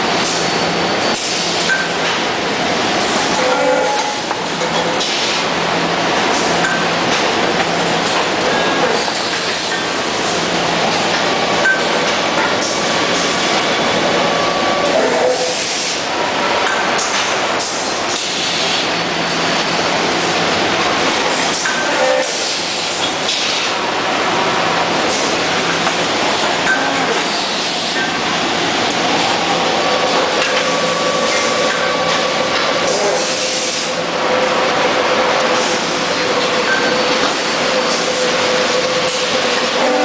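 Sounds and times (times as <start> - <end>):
factory machinery running: 0.0 - 40.0.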